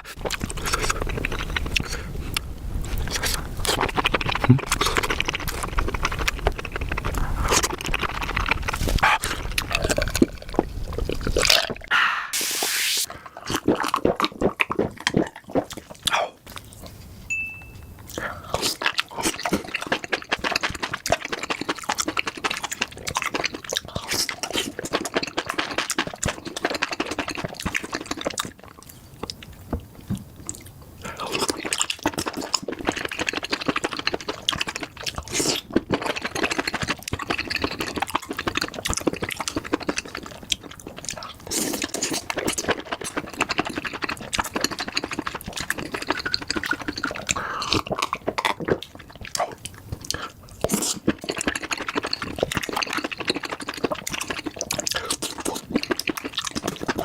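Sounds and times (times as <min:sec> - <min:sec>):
person chewing food: 0:00.0 - 0:12.4, 0:13.0 - 0:17.2, 0:17.9 - 0:57.0.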